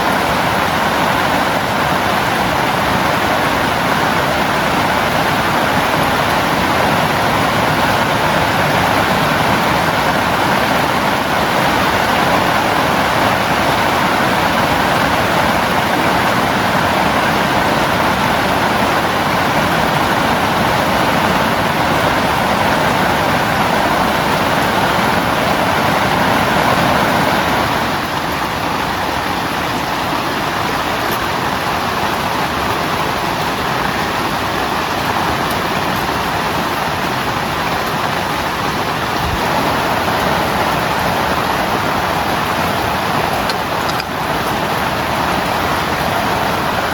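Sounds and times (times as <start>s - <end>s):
heavy rain on a tent: 0.0s - 46.9s.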